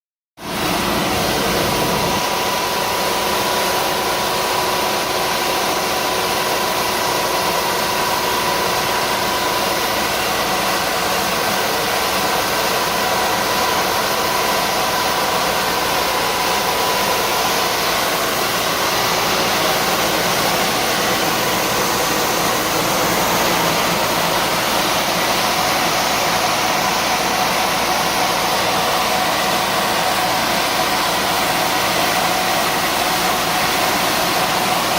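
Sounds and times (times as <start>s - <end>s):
high whine: 0.4s - 34.9s
vacuum cleaner running: 0.4s - 34.9s.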